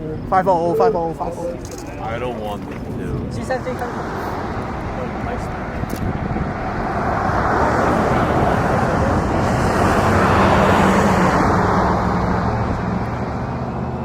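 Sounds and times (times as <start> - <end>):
jet aircraft passing roar: 0.0 - 14.0.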